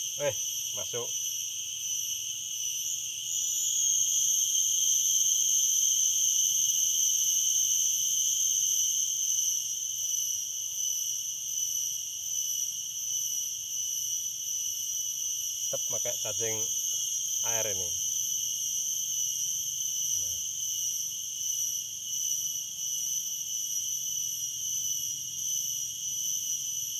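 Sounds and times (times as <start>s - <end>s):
cicadas calling: 0.0s - 26.9s.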